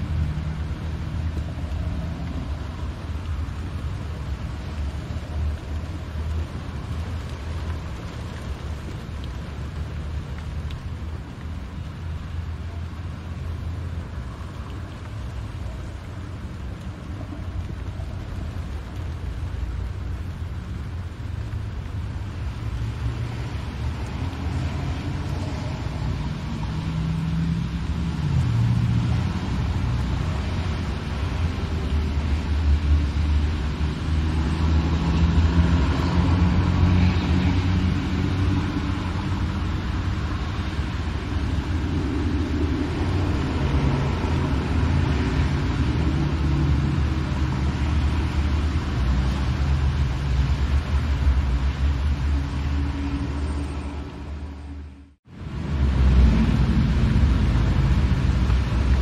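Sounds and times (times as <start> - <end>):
tyre spray hiss on wet road: 0.0 - 59.0.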